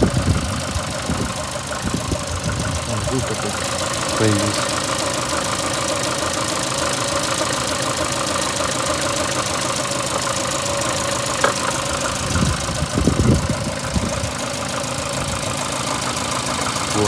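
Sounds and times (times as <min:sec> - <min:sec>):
car engine idling with knocking: 0:00.0 - 0:17.0.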